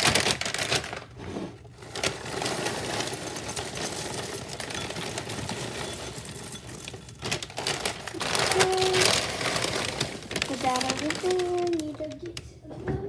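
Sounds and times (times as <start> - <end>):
cereal rattling into ceramic bowl: 0.0 - 12.2
plastic bag crinkling: 0.0 - 12.7.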